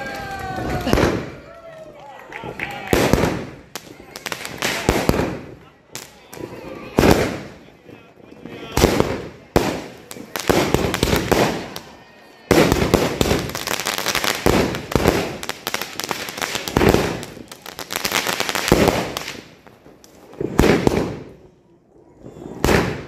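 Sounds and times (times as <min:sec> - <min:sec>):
firework crackling: 0:00.0 - 0:01.6, 0:02.3 - 0:21.6, 0:22.2 - 0:23.0.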